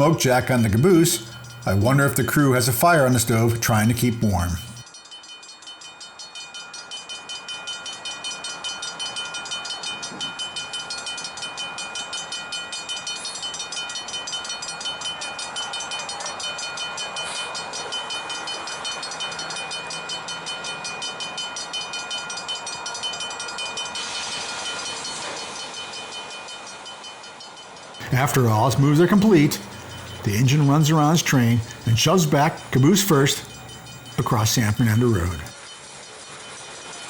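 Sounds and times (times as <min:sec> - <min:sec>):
railroad warning bell ringing: 0:00.0 - 0:35.8.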